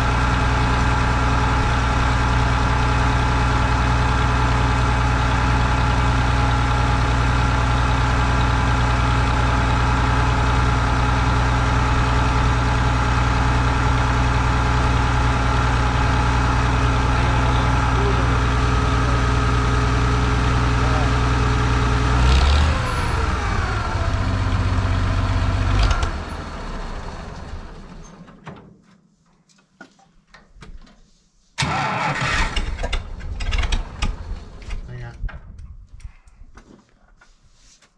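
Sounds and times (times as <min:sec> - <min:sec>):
tractor engine idling: 0:00.0 - 0:28.0, 0:31.6 - 0:35.1.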